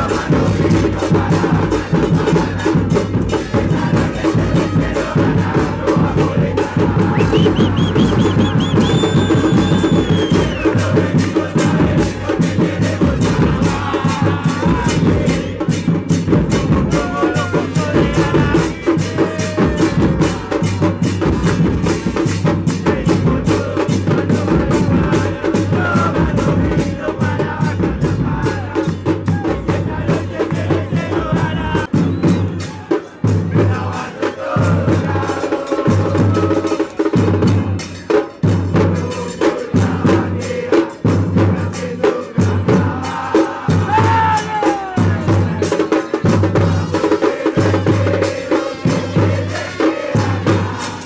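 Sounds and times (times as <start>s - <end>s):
bass drums beaten in fast rhythm: 0.0s - 51.0s
crowd chanting: 0.0s - 51.0s.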